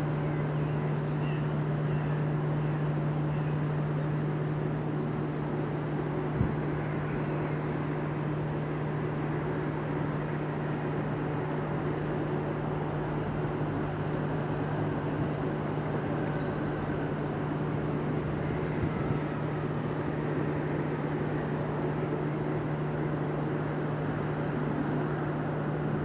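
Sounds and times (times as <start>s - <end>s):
electric train humming: 0.0s - 26.0s
low rumbling noise: 0.0s - 26.0s.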